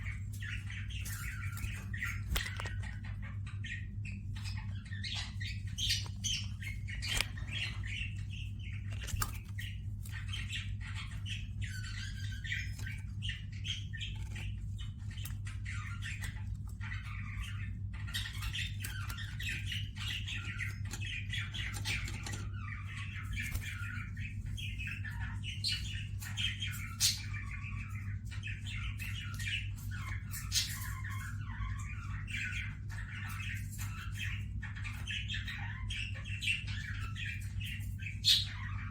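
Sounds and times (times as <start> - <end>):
birds chattering and chirping: 0.0 - 38.9
steady low hum: 0.0 - 38.9.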